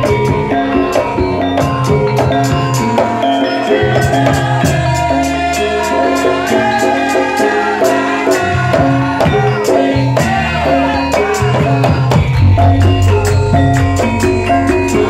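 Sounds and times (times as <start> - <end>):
drums: 0.0 - 15.0
pitched metal percussion melody: 0.0 - 15.0
sharp high percussion stroke: 0.0 - 15.0.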